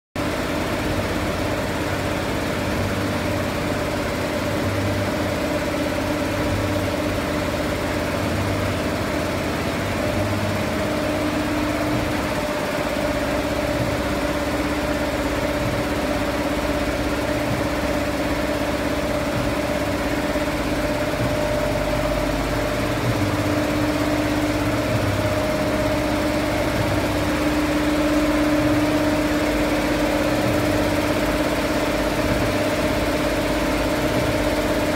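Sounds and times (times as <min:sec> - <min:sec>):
quilting machine humming: 0:00.2 - 0:34.9.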